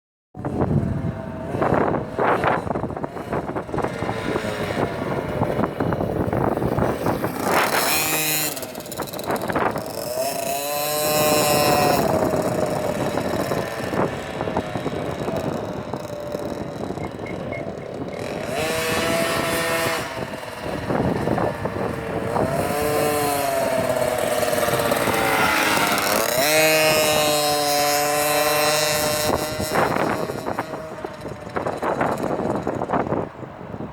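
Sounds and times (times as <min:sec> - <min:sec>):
minibike engine revving: 0:00.4 - 0:33.6.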